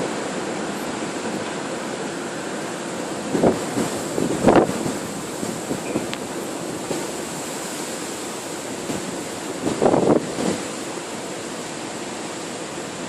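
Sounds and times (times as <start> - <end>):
storm-force wind: 0.0 - 13.0.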